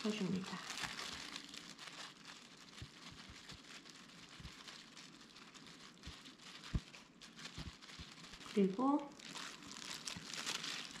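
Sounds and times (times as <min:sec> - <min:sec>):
plastic gloves crinkling: 0:00.0 - 0:11.0.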